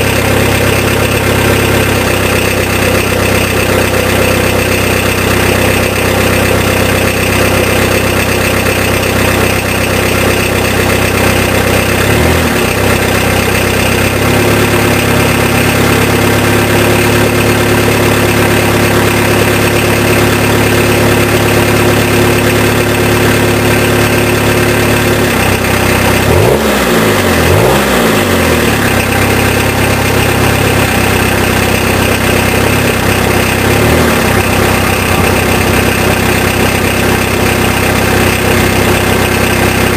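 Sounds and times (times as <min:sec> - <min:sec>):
diesel engine idling: 0:00.0 - 0:39.9
engine revving: 0:00.0 - 0:39.9.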